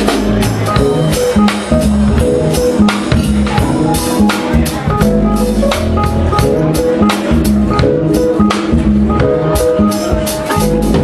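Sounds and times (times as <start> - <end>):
bass line: 0.0 - 11.0
drum kit beat: 0.0 - 11.0
held keyboard chords: 0.0 - 11.0.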